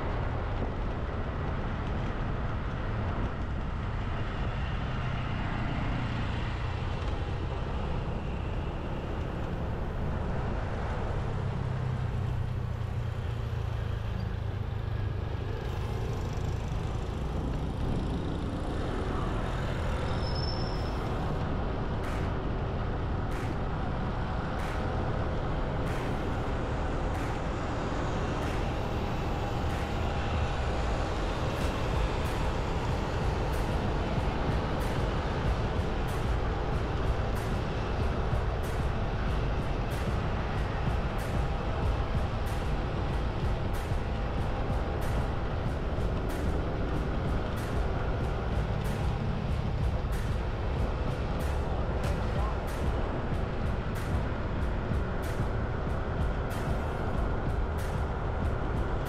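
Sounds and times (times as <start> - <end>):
traffic rumble of engines and tyres: 0.0 - 59.0.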